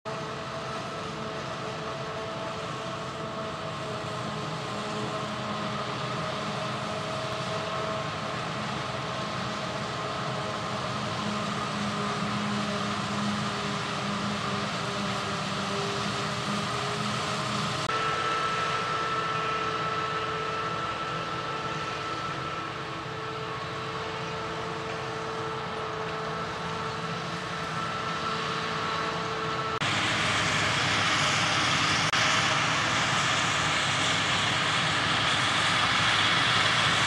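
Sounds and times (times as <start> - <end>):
forage harvester drone: 0.1 - 37.0.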